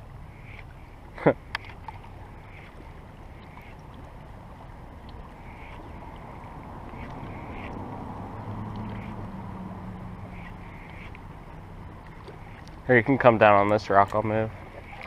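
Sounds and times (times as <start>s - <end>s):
low steady hum: 0.0s - 15.0s
water lapping against rocks: 0.0s - 15.0s.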